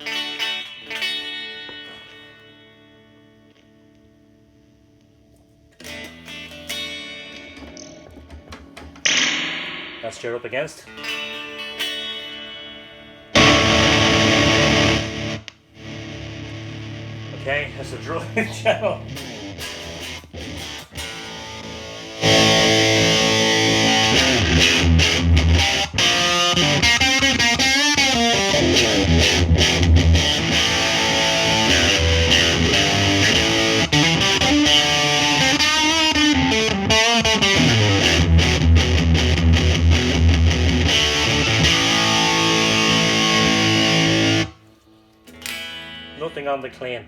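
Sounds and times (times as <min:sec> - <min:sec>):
distorted electric guitar: 0:00.0 - 0:47.0.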